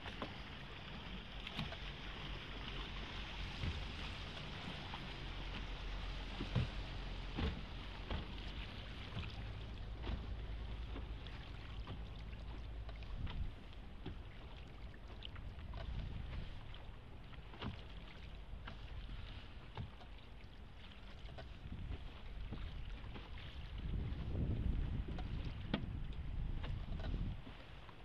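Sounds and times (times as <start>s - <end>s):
steady low rumble: 0.0s - 19.6s, 20.4s - 27.6s
small splashes and drips: 0.0s - 28.0s
water lapping at boat hull: 0.0s - 28.0s.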